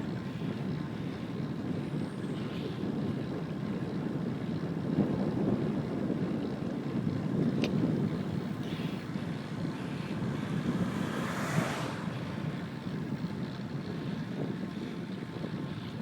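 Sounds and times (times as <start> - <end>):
wind rushing over microphone: 1.6 - 16.0.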